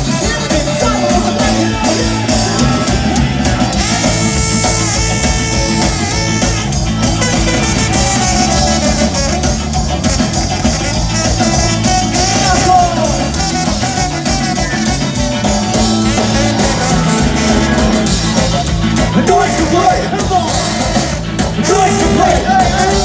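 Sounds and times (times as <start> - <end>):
live ska-punk band playing: 0.0 - 23.0.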